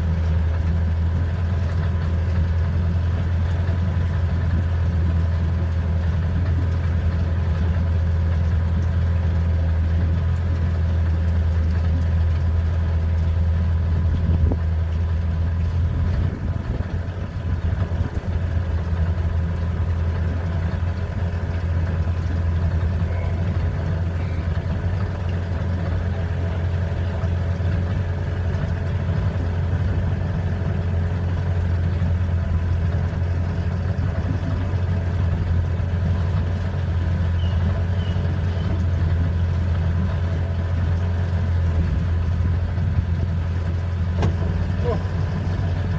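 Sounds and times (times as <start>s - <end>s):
boat engine humming: 0.0s - 45.9s.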